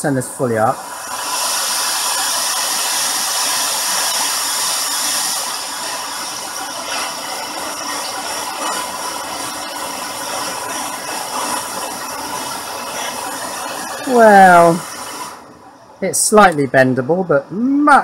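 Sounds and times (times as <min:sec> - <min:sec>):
white noise hiss from small speaker: 0:00.0 - 0:18.0.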